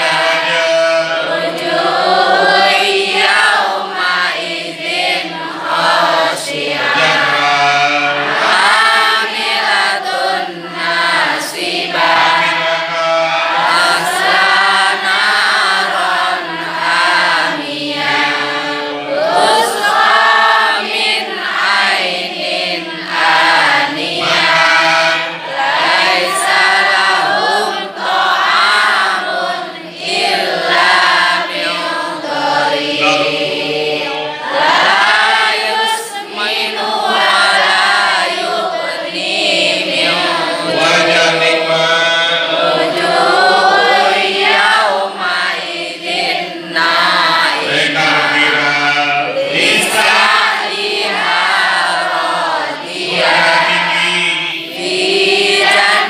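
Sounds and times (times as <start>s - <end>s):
women chanting in unison: 0.0s - 7.4s, 8.2s - 41.0s, 42.5s - 48.2s, 49.3s - 53.9s, 54.5s - 56.0s.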